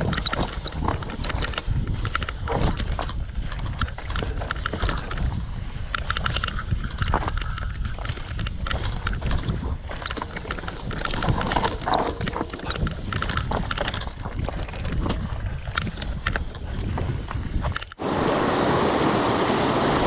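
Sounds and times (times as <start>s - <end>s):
mountain bike rattling on stony trail: 0.0s - 18.0s
wind rumble on microphone: 0.0s - 20.0s.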